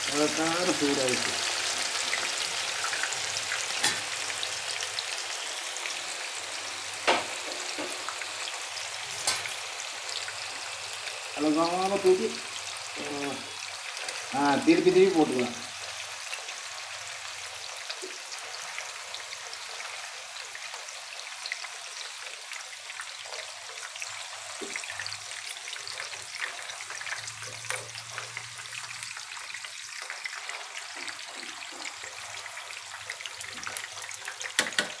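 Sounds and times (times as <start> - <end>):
skewers sizzling in hot oil: 0.0 - 35.0.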